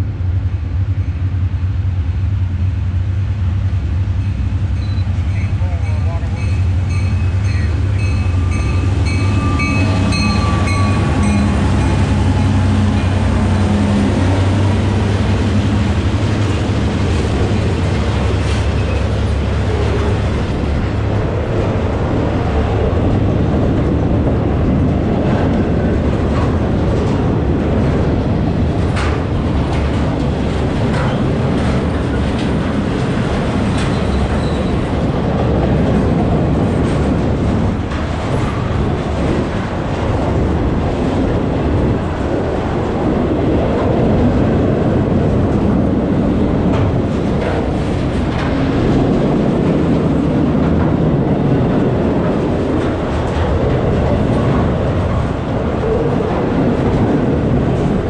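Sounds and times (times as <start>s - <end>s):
diesel locomotive engine running: 0.0s - 58.0s
wheel-on-rail rumble: 0.0s - 58.0s.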